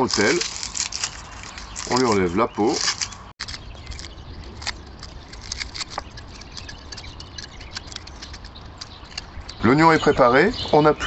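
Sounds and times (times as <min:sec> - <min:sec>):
onion skin crackling: 0:00.0 - 0:09.6.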